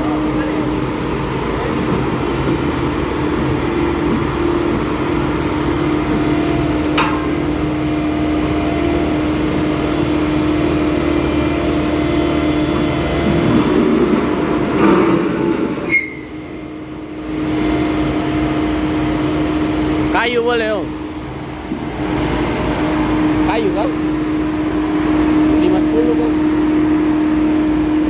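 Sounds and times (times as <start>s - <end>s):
diesel roller engine running: 0.0s - 28.0s
steady whine: 0.0s - 28.0s.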